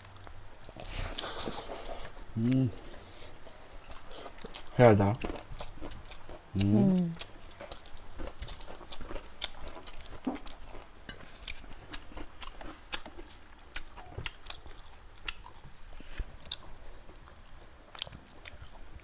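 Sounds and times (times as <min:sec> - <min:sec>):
people chewing food: 0:00.0 - 0:19.0.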